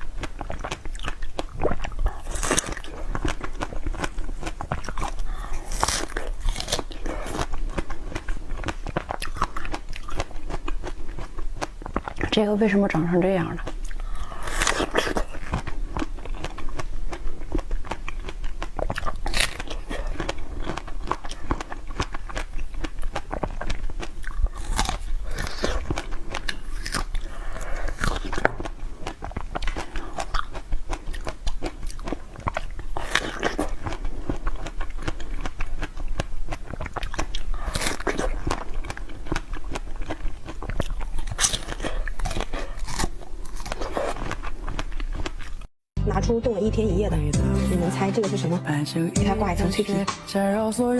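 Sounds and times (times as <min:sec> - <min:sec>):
chewing crunchy food: 0:00.0 - 0:45.7.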